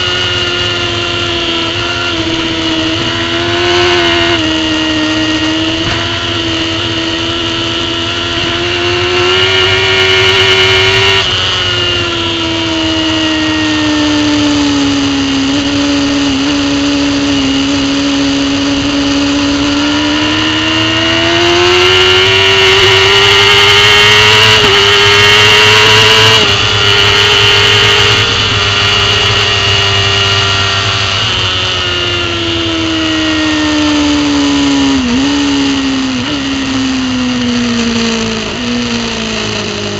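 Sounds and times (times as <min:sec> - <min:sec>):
superbike engine at speed: 0:00.0 - 0:39.9
wind noise: 0:00.0 - 0:39.9.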